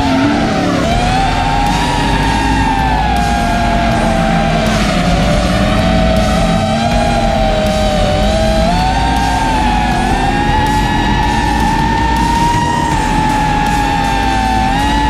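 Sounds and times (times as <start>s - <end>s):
heavy rock music: 0.0s - 15.0s
quadcopter motors whining: 0.0s - 15.0s.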